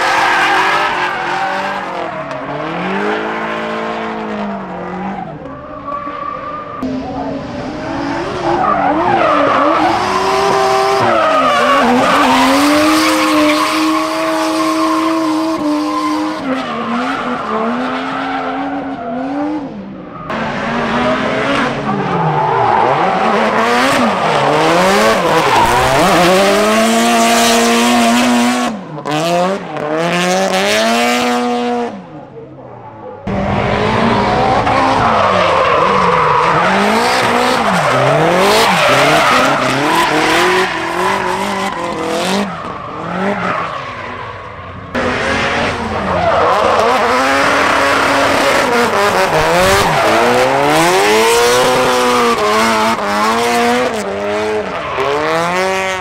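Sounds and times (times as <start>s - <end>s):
tires squealing: 0.0s - 31.2s, 32.7s - 56.0s
car engines revving: 0.0s - 56.0s.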